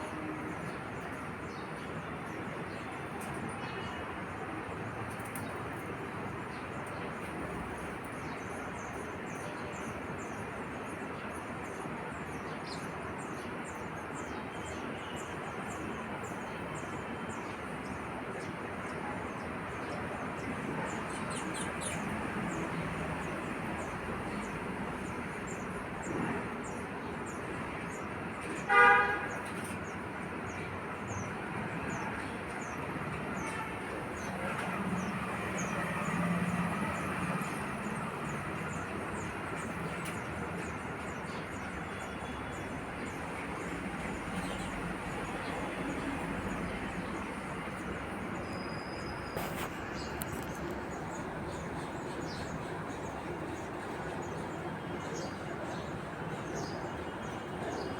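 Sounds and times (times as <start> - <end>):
small birds chirping: 0.0 - 57.9
traffic background noise: 0.0 - 57.9.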